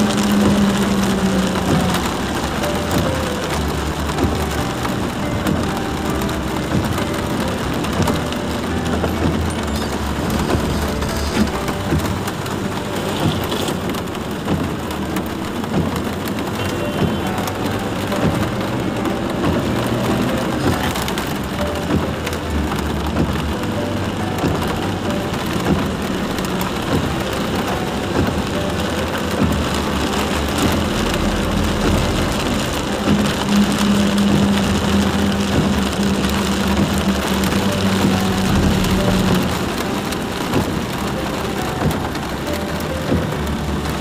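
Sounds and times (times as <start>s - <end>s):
car moving on wet road: 0.0s - 44.0s
heavy rain on car roof: 0.0s - 44.0s.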